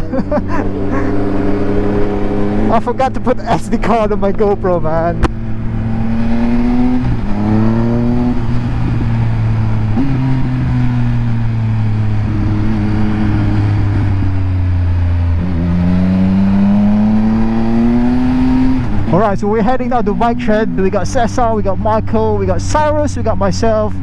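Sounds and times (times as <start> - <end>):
motorcycle engine revving through gears: 0.0 - 19.2.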